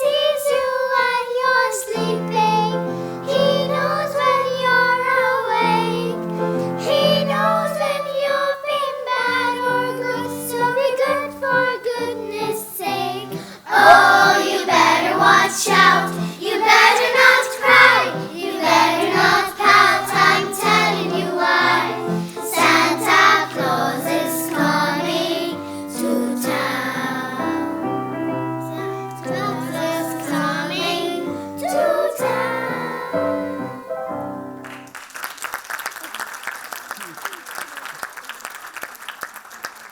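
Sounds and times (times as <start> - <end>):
children's choir singing: 0.0 - 34.9.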